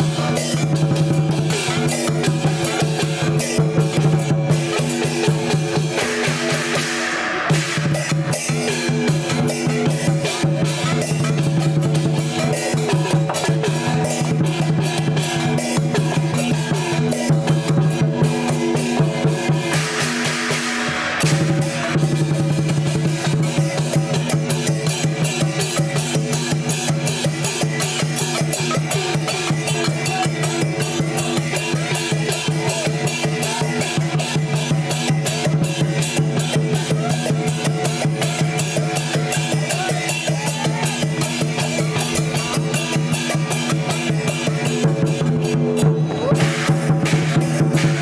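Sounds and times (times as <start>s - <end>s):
cymbals ringing: 0.0s - 48.0s
drum playing fast beat: 0.0s - 48.0s.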